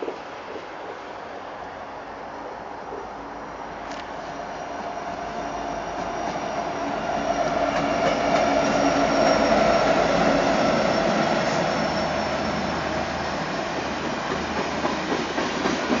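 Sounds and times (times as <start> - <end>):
diesel locomotives passing: 0.0 - 16.0.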